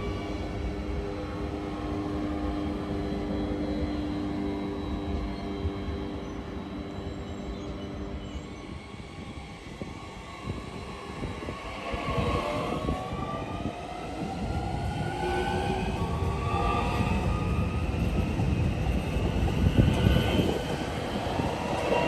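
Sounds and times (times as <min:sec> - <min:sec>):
train low rumble: 0:00.0 - 0:22.0
train motor whine: 0:00.0 - 0:22.0.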